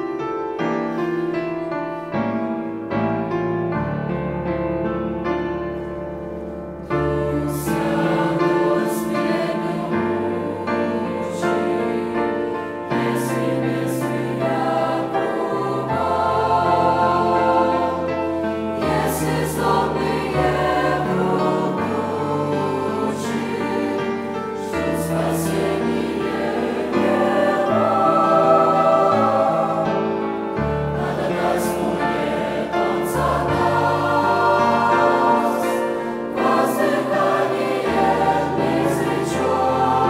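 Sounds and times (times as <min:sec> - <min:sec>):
mixed choir singing a hymn: 0:06.8 - 0:40.0.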